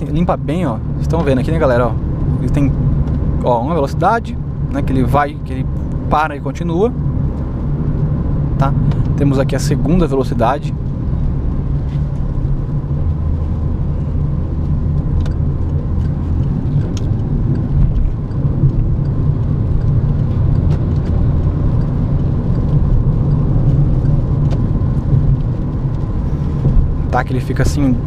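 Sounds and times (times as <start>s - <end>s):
car engine and tyre drone: 0.0s - 28.0s.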